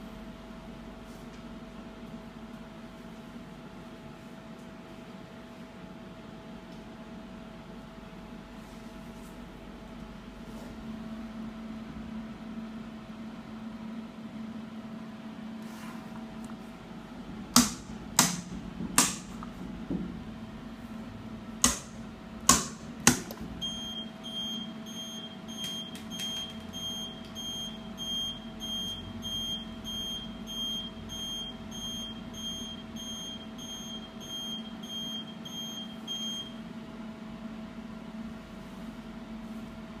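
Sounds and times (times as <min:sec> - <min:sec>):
induction heater humming: 0:00.0 - 0:40.0.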